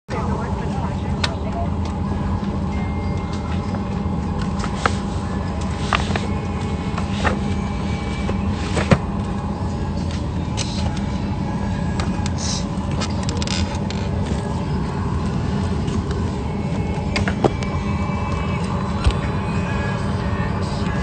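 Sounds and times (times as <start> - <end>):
airliner cabin hum: 0.1 - 21.0.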